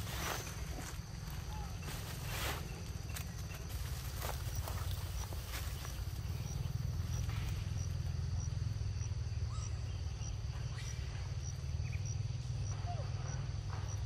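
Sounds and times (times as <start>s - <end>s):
insect chirping in high pips: 0.0s - 14.0s.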